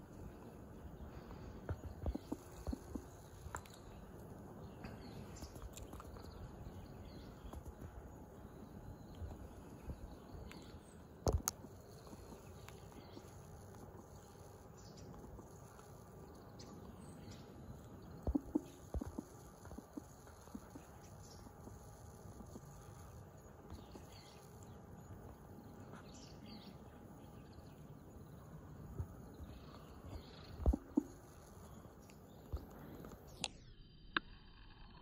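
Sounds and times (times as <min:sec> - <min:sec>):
low outdoor background noise: 0:00.0 - 0:35.0.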